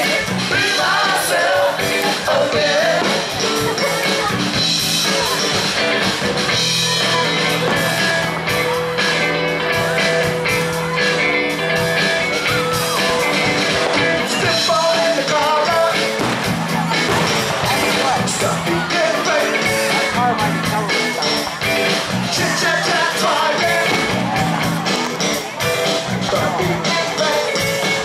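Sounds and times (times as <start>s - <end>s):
live rock band with singer: 0.0s - 28.0s.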